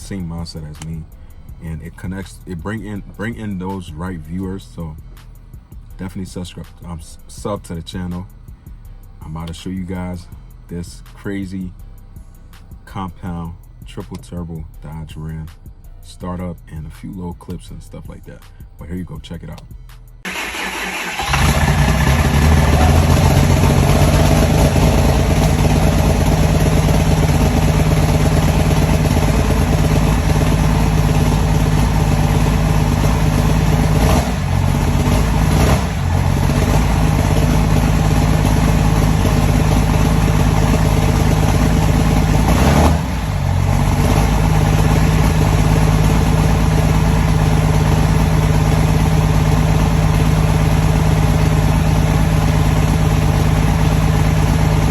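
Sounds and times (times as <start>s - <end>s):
diesel engine running: 0.0s - 14.6s, 19.7s - 54.9s.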